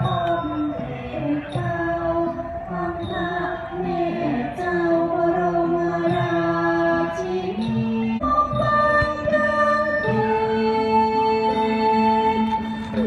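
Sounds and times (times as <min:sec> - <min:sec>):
woman singing slow melody: 0:00.0 - 0:13.0.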